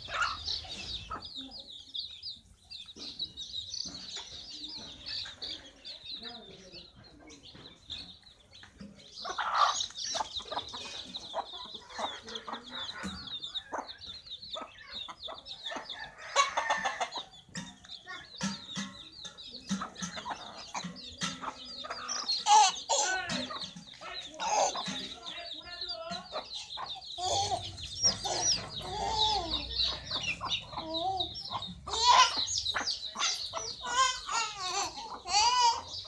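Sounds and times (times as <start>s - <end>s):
chicks peeping: 0.0s - 36.0s
hen clucking: 0.0s - 36.0s.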